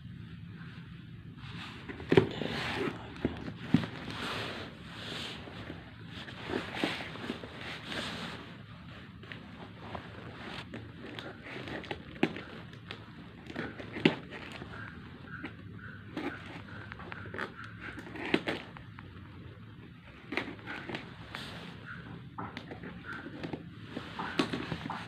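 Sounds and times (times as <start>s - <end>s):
packaging crackling and rustling: 1.6s - 25.0s.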